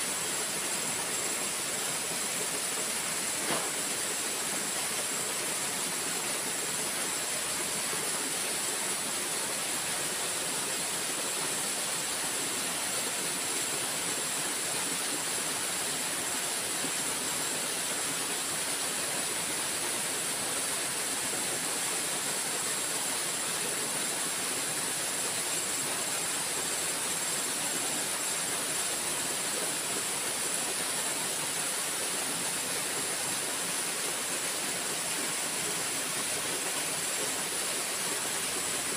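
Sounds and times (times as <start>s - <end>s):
constant high hiss: 0.0s - 38.9s
river water rushing: 0.0s - 38.9s.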